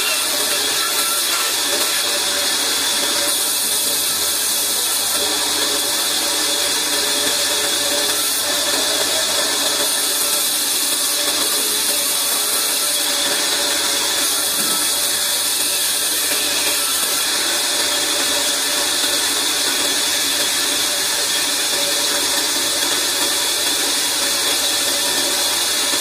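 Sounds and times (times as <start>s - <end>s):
band saw cutting wood: 0.0s - 26.0s.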